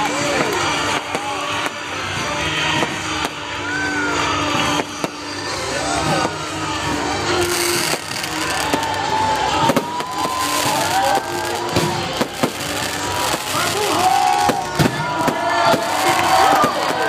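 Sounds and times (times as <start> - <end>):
fireworks bangs: 0.0 - 17.0
music: 0.0 - 17.0
voices: 0.0 - 17.0.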